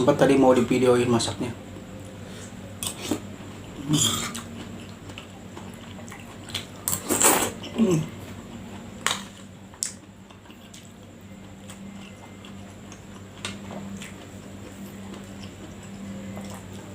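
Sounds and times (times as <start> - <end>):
chewing: 2.8 - 16.9.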